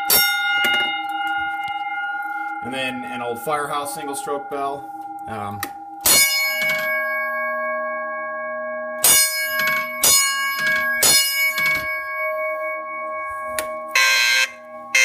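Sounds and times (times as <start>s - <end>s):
fire alarm bell striking gong: 0.0s - 15.0s.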